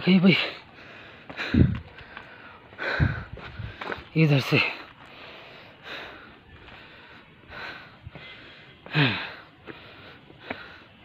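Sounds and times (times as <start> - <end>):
man breathing hard: 0.6 - 4.1, 4.7 - 11.0.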